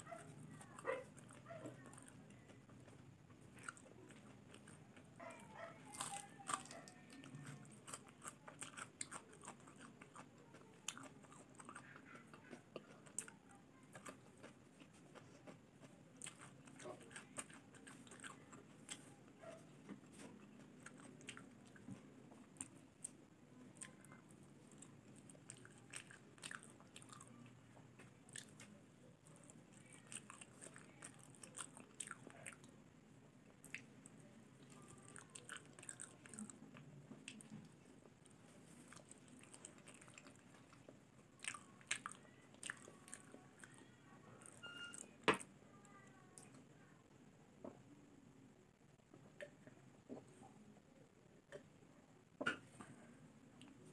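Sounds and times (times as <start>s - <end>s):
soft chewing: 0.0s - 48.0s, 48.6s - 53.9s.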